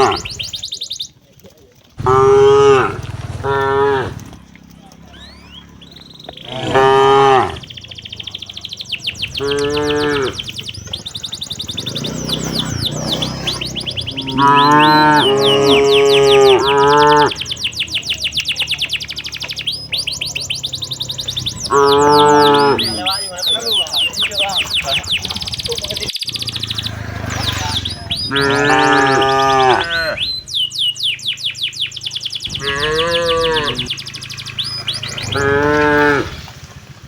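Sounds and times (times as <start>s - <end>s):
cattle mooing: 0.0s - 0.6s, 2.0s - 25.2s, 26.4s - 31.0s, 32.4s - 36.6s
birds chirping: 0.0s - 37.0s.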